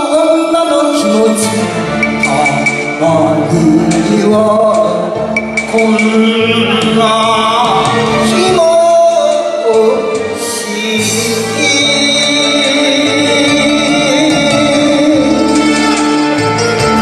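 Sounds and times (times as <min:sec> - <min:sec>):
karaoke backing track: 0:00.0 - 0:17.0
man singing with vibrato: 0:00.0 - 0:17.0.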